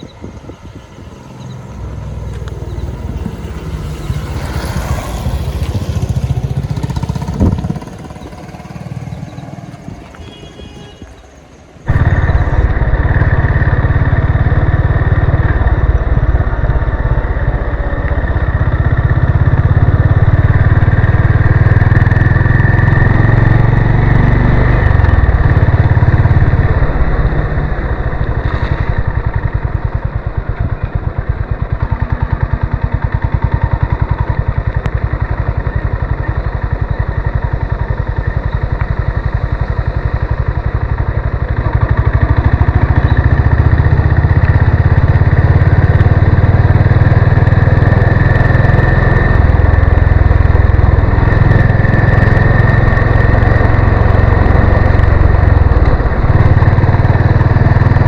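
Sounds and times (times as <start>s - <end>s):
single-cylinder engine running: 0.0s - 58.0s.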